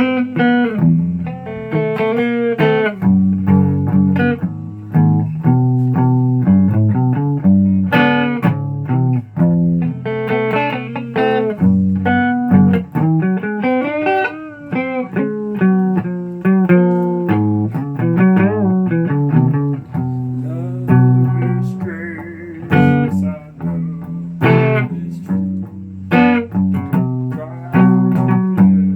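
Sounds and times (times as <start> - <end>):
guitar plucked notes and chords: 0.0 - 28.9.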